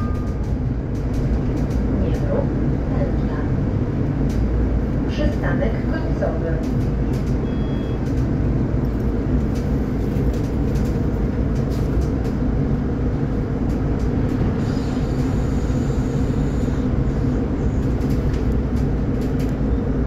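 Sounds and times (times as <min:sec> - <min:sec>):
bus drivetrain and tyre rumble: 0:00.0 - 0:20.0.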